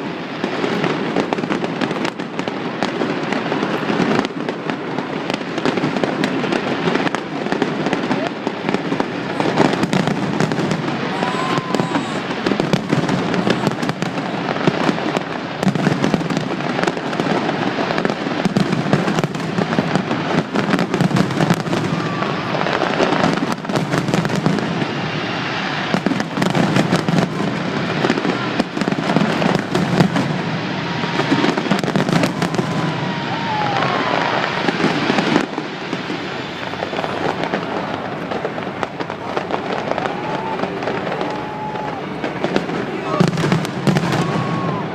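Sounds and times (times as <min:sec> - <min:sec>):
faint firework whistles: 0:00.0 - 0:44.9
fireworks bangs and crackles: 0:00.0 - 0:44.9.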